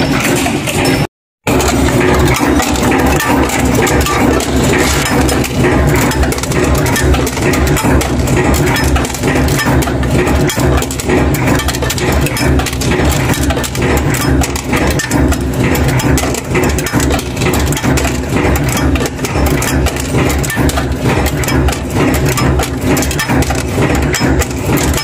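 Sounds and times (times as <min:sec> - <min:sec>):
rapid metal knocks clatter: 0:00.0 - 0:25.0
low machine hum: 0:01.5 - 0:25.0.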